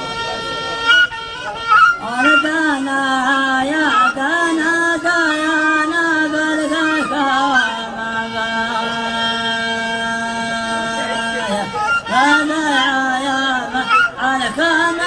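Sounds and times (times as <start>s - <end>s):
man chanting poetry: 0.0s - 15.0s.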